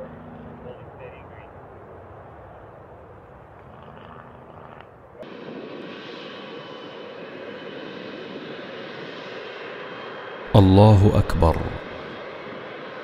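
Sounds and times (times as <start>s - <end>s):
jet airliner engines rushing: 0.0s - 13.0s.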